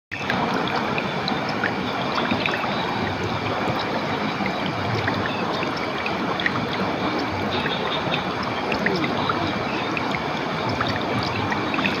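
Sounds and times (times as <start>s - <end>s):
small water plinks: 0.1s - 12.0s
water running and splashing: 0.1s - 12.0s.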